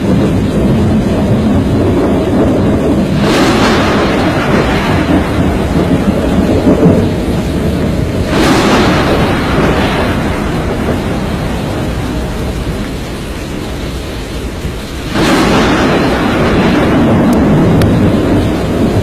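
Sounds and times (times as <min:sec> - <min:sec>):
wind roaring on microphone: 0:00.0 - 0:19.0.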